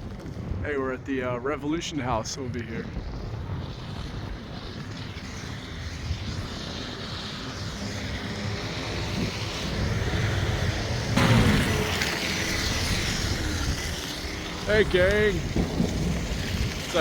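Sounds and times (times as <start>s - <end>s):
vehicle rumbling: 0.0s - 17.0s.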